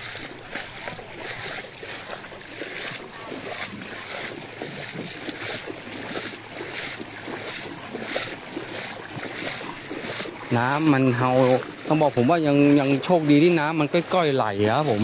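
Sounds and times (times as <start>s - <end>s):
water splashing around legs: 0.0s - 15.0s.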